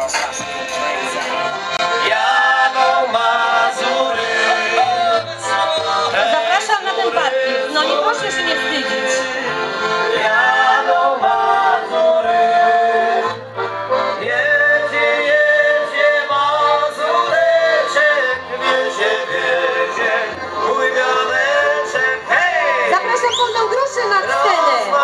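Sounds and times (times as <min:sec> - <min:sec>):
folk band playing: 0:00.0 - 0:25.0.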